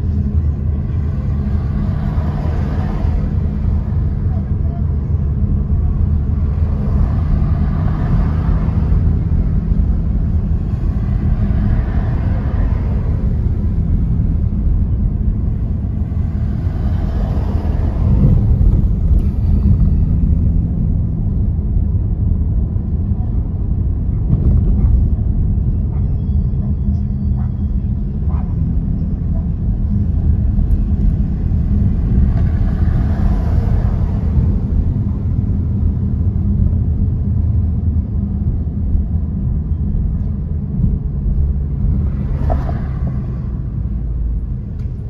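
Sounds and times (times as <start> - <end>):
car engine and road noise rumble: 0.0 - 45.0.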